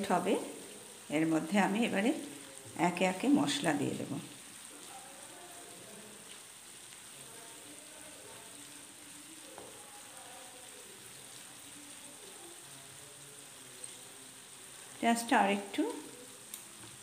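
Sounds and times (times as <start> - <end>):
onions sizzling in a pan: 0.0 - 17.0.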